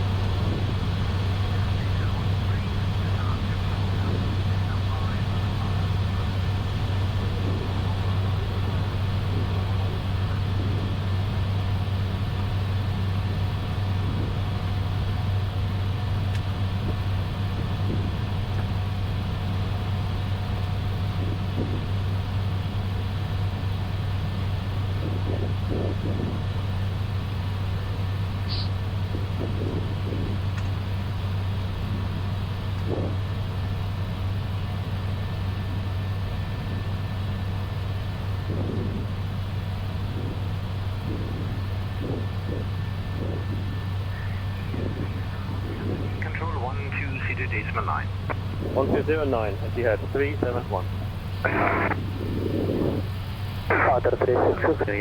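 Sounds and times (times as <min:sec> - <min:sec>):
airliner cockpit engine rumble: 0:00.0 - 0:55.0.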